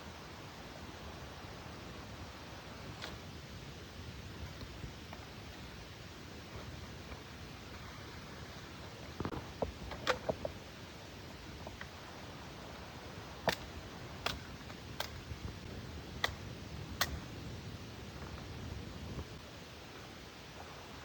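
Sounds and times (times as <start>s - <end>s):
steady low background noise: 0.0s - 21.0s.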